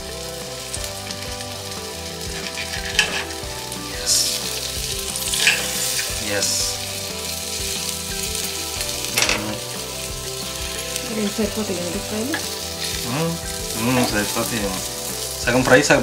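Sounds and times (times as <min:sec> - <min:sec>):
cactus pads sizzling in oil: 0:00.0 - 0:16.0.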